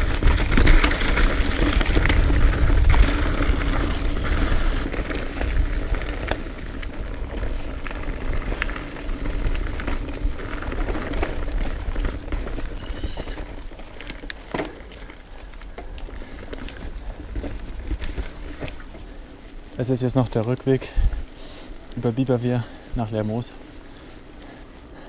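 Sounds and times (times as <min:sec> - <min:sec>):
bike clicks and rattles: 0:00.0 - 0:25.0
bike tyres rumbling on trail: 0:00.0 - 0:25.0.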